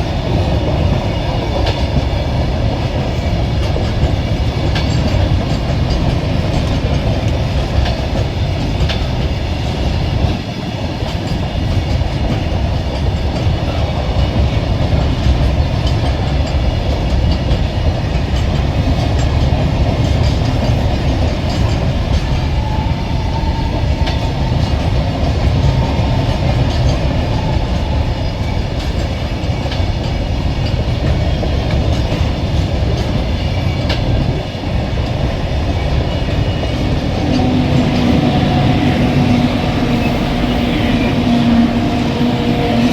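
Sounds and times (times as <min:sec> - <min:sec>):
goods train rumbling: 0:00.0 - 0:42.9
wheels clacking over rail joints: 0:00.0 - 0:42.9.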